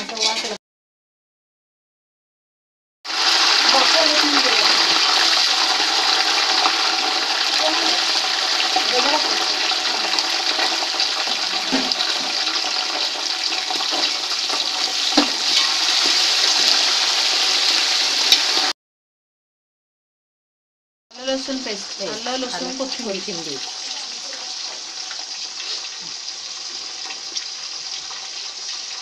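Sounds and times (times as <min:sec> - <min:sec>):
onions sizzling in hot oil: 0:03.1 - 0:18.7, 0:21.2 - 0:29.0.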